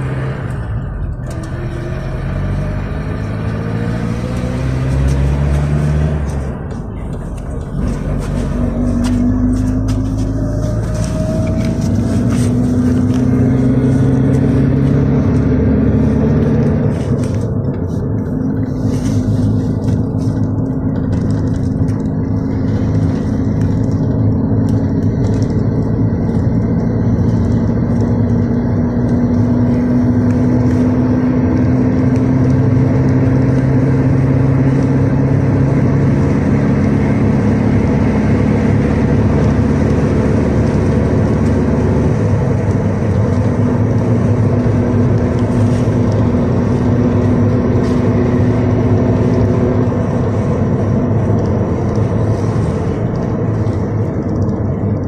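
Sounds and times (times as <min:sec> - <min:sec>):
minibus engine droning: 0:00.0 - 0:55.0
road noise: 0:00.0 - 0:55.0.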